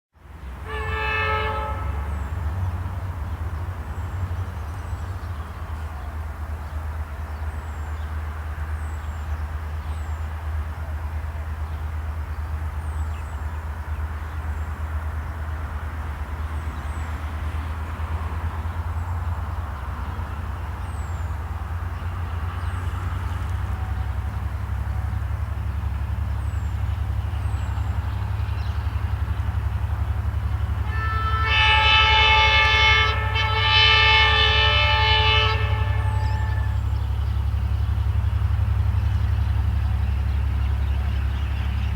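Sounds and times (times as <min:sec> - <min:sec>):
diesel locomotives rumbling: 0:00.2 - 0:41.9.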